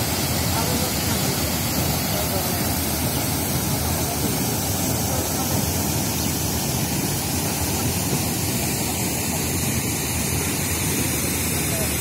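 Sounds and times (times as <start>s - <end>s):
floodwater rushing and pouring: 0.0s - 12.0s.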